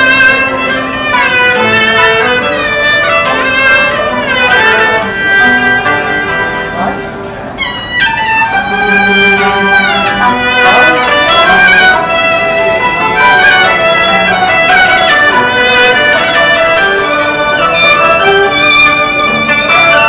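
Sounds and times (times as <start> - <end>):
bowed erhu sliding between notes: 0.0 - 20.0
flute: 0.0 - 20.0
hammered dulcimer: 0.0 - 20.0
plucked lute: 0.0 - 20.0.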